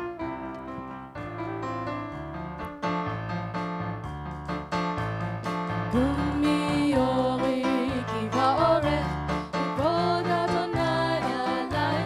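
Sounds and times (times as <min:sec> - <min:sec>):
piano playing worship song intro: 0:00.0 - 0:12.0.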